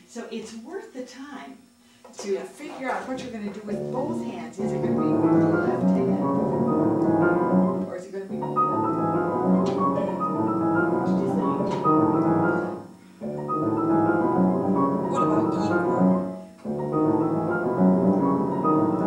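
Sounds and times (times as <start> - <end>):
grand piano chords and melody: 3.7 - 19.0.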